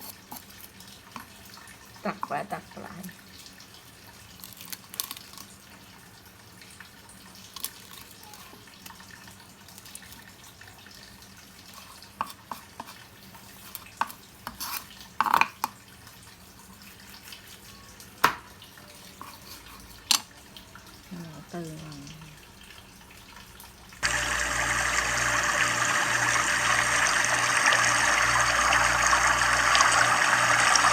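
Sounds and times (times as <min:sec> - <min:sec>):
running water: 0:00.0 - 0:30.9.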